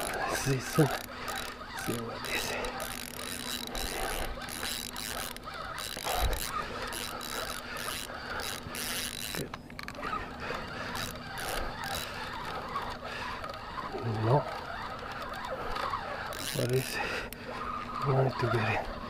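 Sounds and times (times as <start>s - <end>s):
fishing reel ratcheting: 0.0s - 19.0s.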